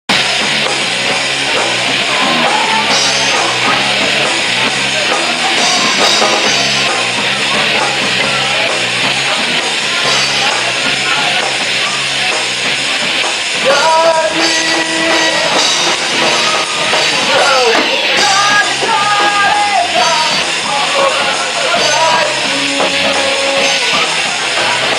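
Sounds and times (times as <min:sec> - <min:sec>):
rock band playing: 0:00.1 - 0:24.9.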